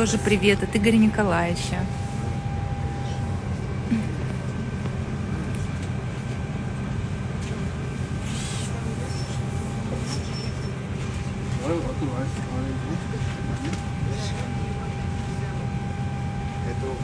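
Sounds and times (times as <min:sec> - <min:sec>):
cabin ventilation rumble and hum: 0:00.0 - 0:17.0.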